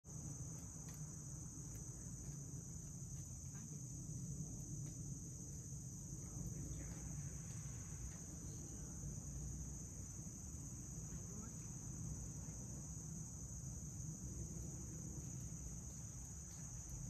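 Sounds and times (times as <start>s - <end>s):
insects chorus: 0.0s - 17.0s
low outdoor rumble: 0.1s - 17.0s.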